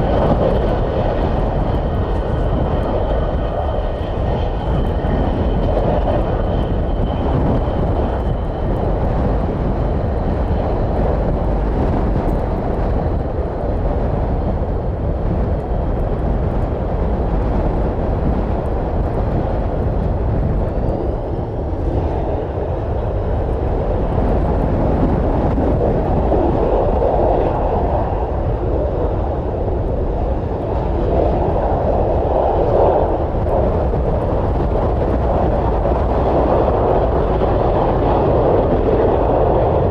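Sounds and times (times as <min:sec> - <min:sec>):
jet engines rumbling with whine: 0:00.0 - 0:39.9
wind buffeting microphone: 0:00.0 - 0:39.9.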